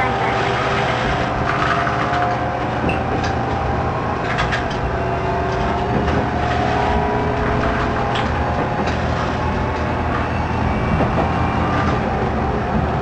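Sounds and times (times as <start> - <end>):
diesel railcar engine drone: 0.0 - 13.0.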